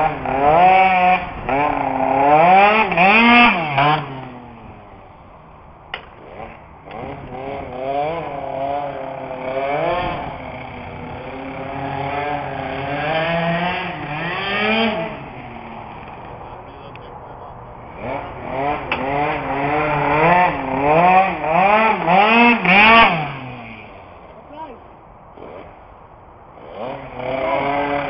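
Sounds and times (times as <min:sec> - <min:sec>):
scooter engine revving: 0:00.0 - 0:05.1, 0:05.9 - 0:28.0.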